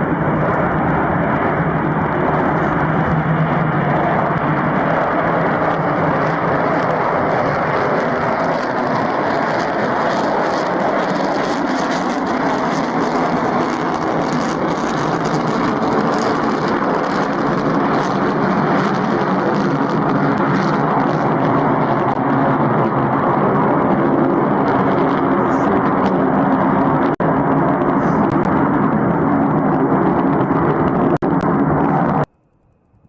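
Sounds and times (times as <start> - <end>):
aircraft engine rushing: 0.0 - 33.0.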